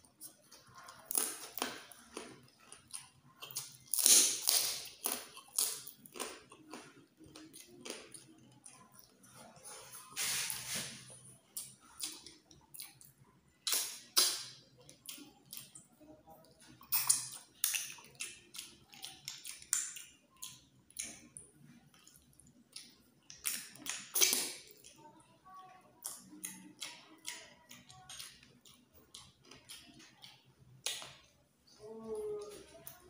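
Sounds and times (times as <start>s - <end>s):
chewing: 0.0s - 33.0s.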